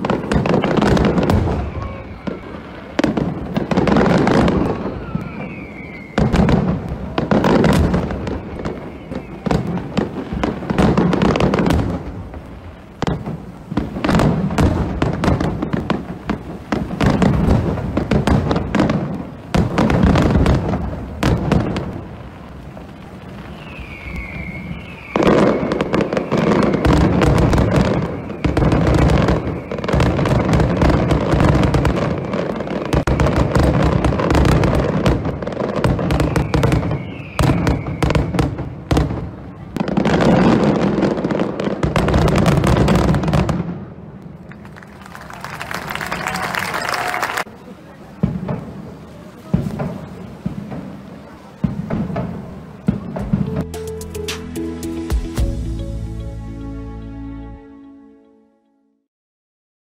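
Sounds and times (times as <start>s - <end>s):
fireworks bursting and crackling: 0.0s - 56.3s.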